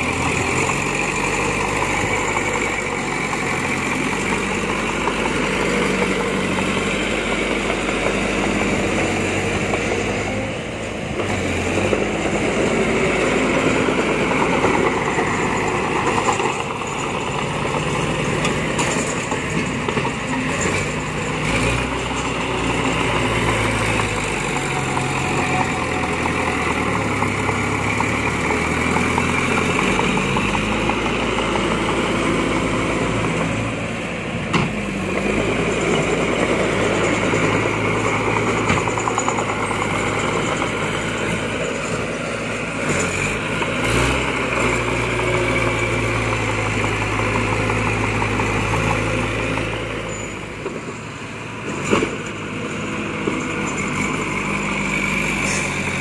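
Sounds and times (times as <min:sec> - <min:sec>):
heavy machinery engines running: 0:00.0 - 0:56.0.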